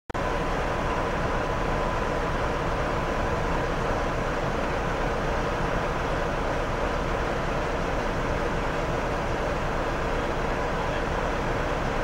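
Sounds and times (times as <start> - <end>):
diesel locomotive idling: 0.2 - 12.0.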